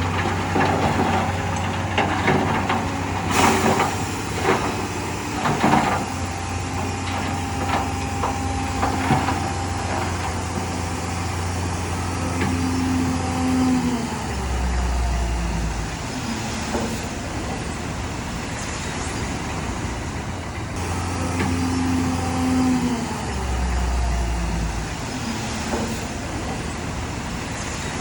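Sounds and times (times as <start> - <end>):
diesel earthmoving machinery running: 0.0 - 28.0.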